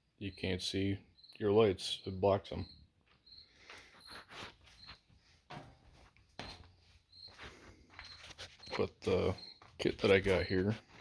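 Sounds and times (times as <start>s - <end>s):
faint high-pitched chirps: 0.0s - 5.4s, 6.4s - 10.7s.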